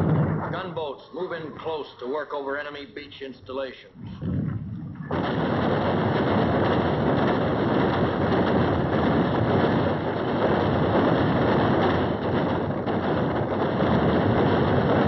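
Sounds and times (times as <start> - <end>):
wind rushing: 0.0 - 2.0, 4.0 - 15.0.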